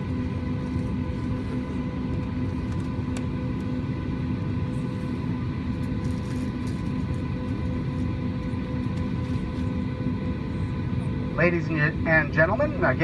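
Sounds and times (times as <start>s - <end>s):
aircraft cabin rumble and hum: 0.0s - 13.0s.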